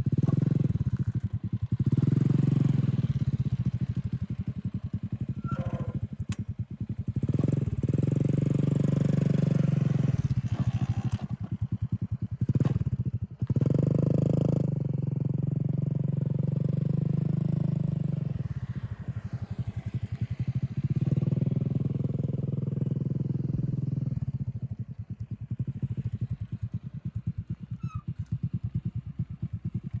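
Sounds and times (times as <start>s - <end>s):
motorbike engine revving and idling: 0.0s - 30.0s.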